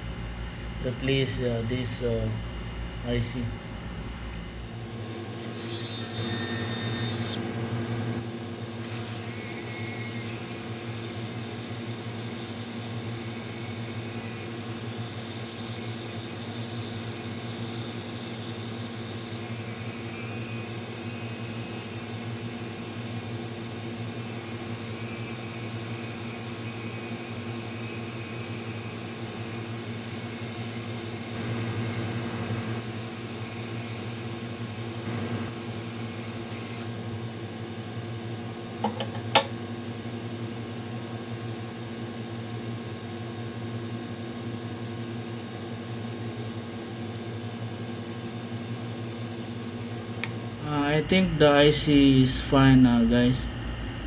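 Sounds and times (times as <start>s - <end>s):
hot air blower humming: 0.0s - 26.8s, 28.4s - 40.9s, 46.8s - 54.0s.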